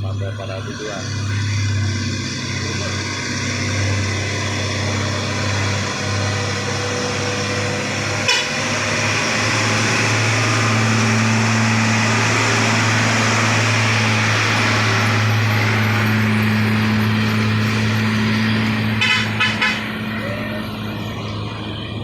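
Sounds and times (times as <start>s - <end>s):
train running past: 0.0s - 22.0s.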